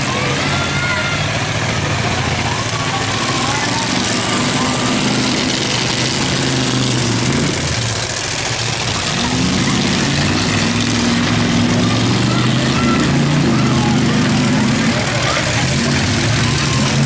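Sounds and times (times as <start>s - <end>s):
car engines revving: 0.0s - 17.0s
steady rush of noise: 0.0s - 17.0s.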